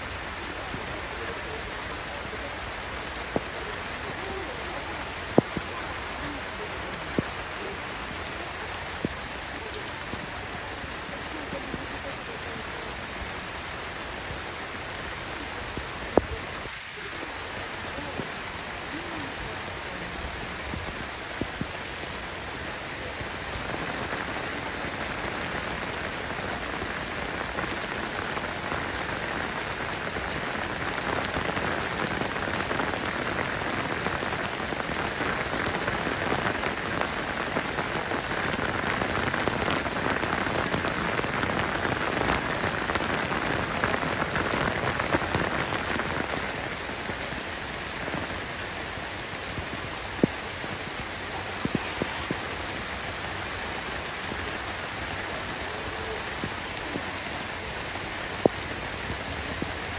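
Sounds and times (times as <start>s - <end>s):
heavy rain pelting ground: 0.0s - 59.9s.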